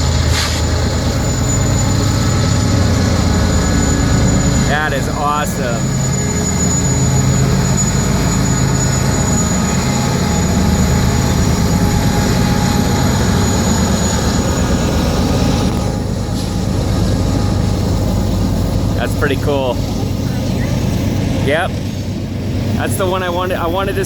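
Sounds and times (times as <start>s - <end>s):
diesel locomotive engine drone: 0.0s - 24.0s
faint high whine: 0.0s - 24.0s.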